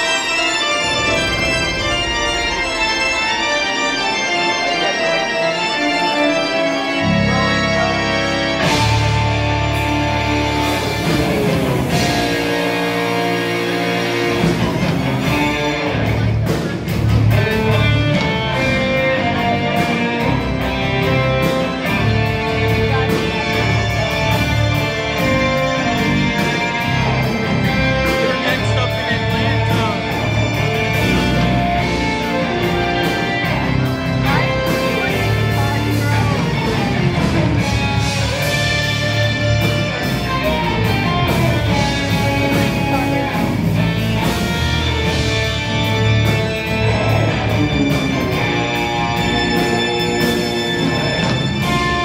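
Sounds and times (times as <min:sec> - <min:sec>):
deep bass layer: 0:00.0 - 0:52.0
guitar music: 0:00.0 - 0:52.0
organ playing sustained chords: 0:00.0 - 0:52.0.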